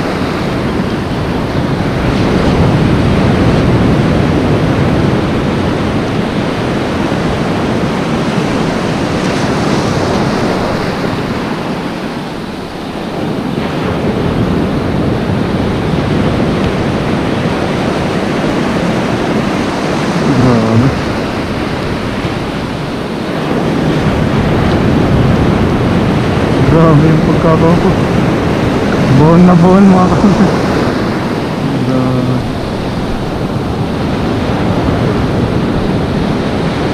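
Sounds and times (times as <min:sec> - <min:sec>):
surf washing over reef: 0:00.0 - 0:36.9
wind buffeting microphone: 0:00.0 - 0:36.9.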